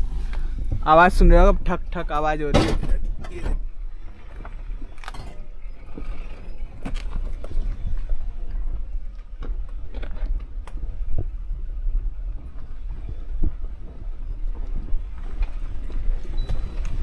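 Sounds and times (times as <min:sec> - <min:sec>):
car driving on rocky road: 0:00.0 - 0:17.0.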